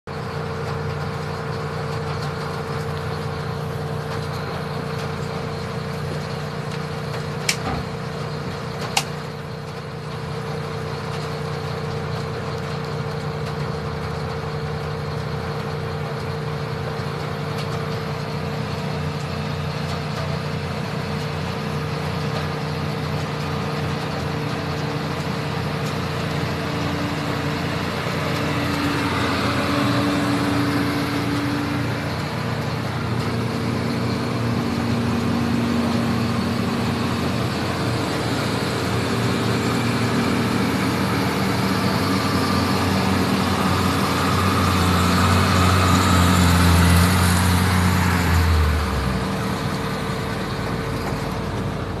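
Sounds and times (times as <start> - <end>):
diesel engines labouring uphill: 0.0 - 52.0.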